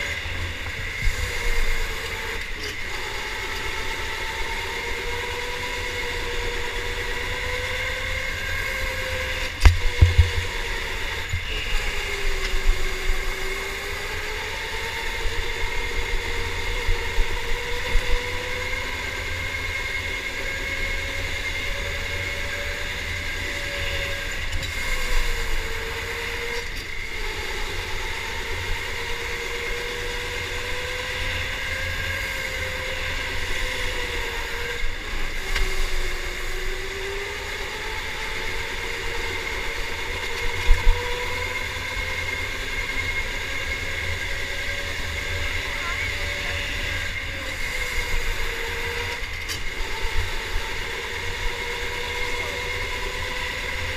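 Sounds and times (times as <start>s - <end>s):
electric go-kart motor whining: 0.0s - 53.9s.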